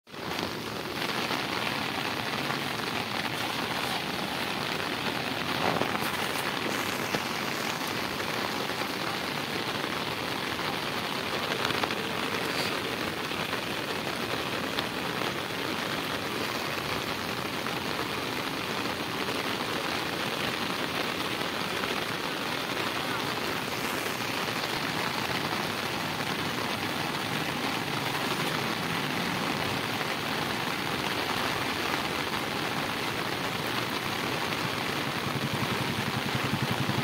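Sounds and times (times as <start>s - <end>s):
rain falling on river water: 0.0s - 37.0s.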